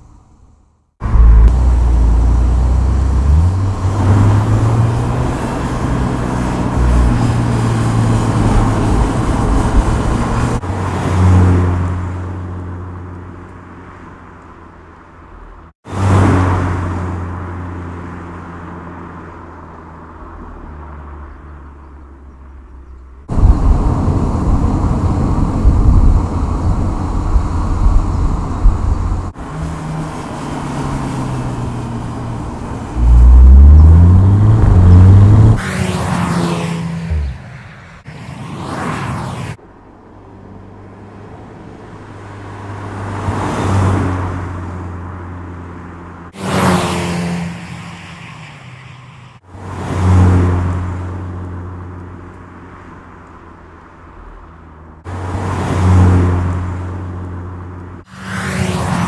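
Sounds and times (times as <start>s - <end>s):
car engine: 0.0s - 59.0s.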